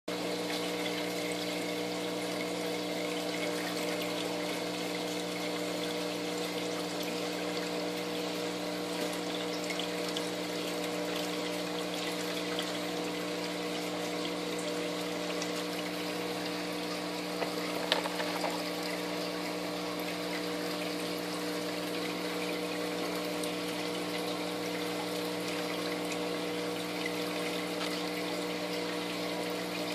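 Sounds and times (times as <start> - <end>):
aquarium pump humming: 0.1 - 29.9
circulating water rushing: 0.2 - 29.9.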